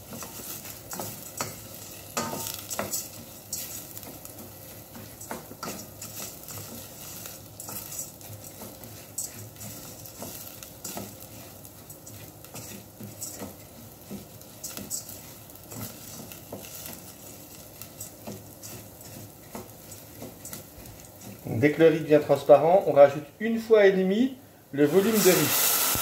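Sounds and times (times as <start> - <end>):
wooden spoon scraping a pan: 0.0 - 22.7
light sizzle: 0.0 - 26.0.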